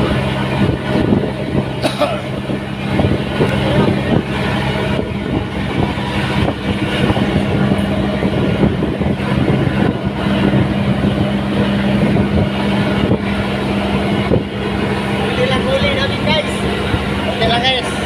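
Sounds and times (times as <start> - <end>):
engine running with rattle: 0.0 - 18.0.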